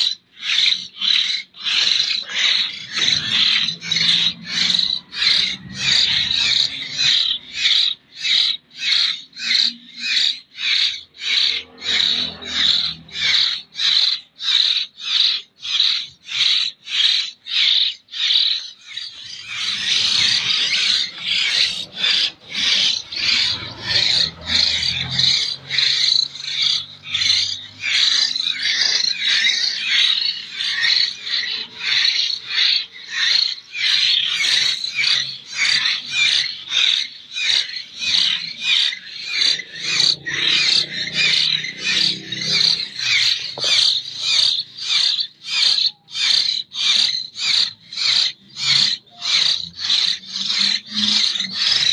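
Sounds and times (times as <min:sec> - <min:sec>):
nestlings begging calls: 0:00.0 - 0:51.9.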